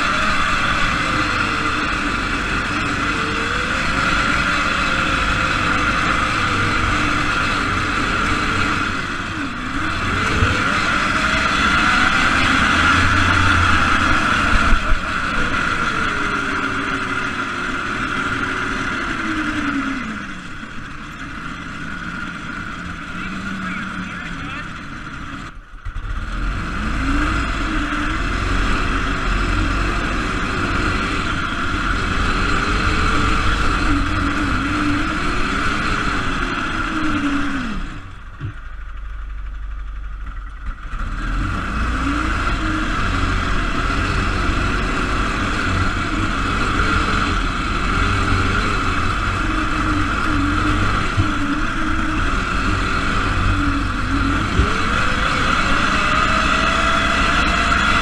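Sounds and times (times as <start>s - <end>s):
steady high whine: 0.0s - 25.9s, 26.7s - 58.0s
engine revving: 0.0s - 58.0s.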